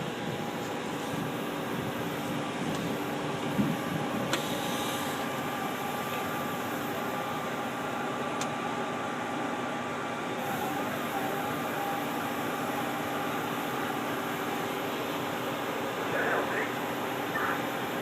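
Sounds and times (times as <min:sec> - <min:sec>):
truck engine and hydraulics humming: 0:00.0 - 0:18.0.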